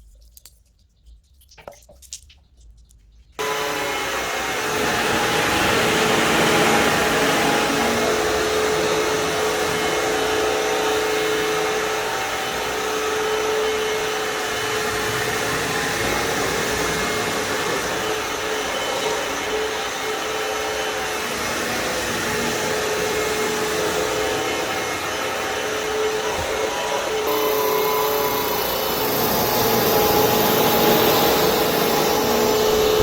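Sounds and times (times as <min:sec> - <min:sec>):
vacuum cleaner running: 0:03.4 - 0:33.0.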